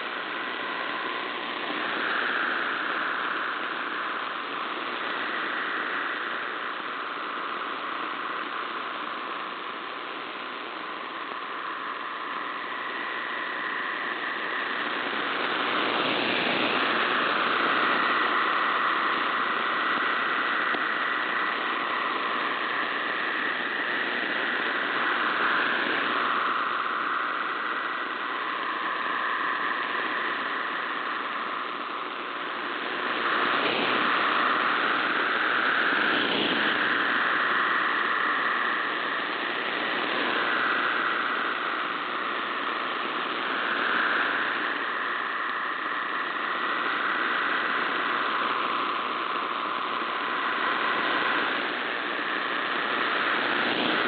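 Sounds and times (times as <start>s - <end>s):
radio static: 0.0s - 54.0s.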